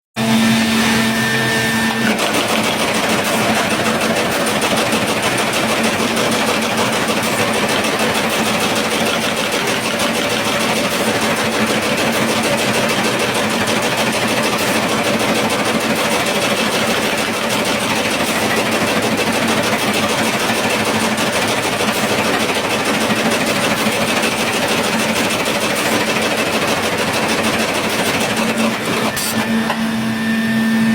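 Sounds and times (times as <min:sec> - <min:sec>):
machinery clattering: 0:02.0 - 0:30.0.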